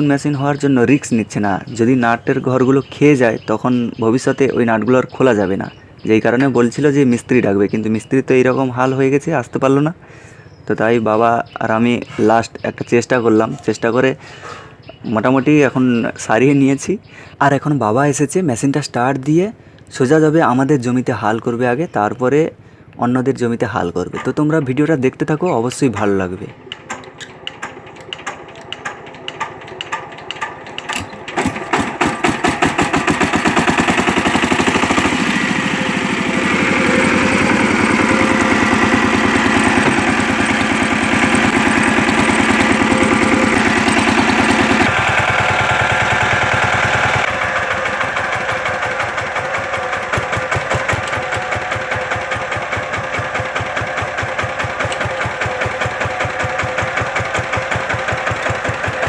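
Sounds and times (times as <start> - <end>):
tractor engine chugging: 0.0 - 17.3, 24.0 - 59.0.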